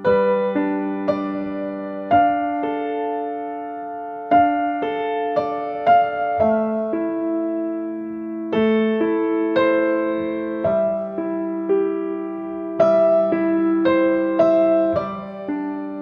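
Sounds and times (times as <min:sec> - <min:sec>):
gentle keyboard melody: 0:00.0 - 0:16.0.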